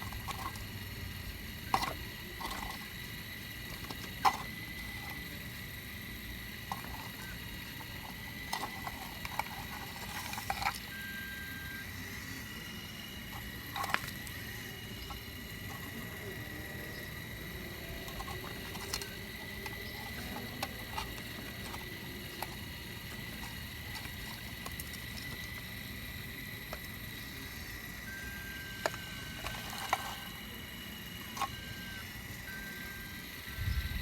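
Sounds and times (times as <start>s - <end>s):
digging machine running: 0.0s - 34.0s.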